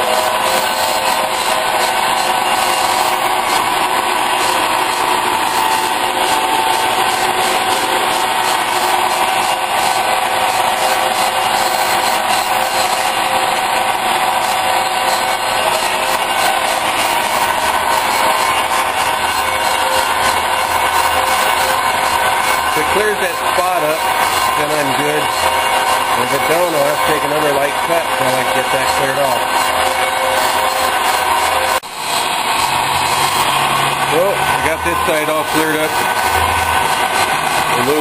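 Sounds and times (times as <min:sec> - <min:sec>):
metal lathe cutting: 0:00.0 - 0:38.0.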